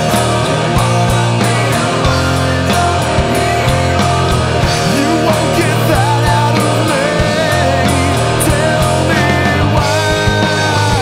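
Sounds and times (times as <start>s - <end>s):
bass line: 0.0s - 11.0s
drum hits: 0.0s - 11.0s
rock band playing: 0.0s - 11.0s.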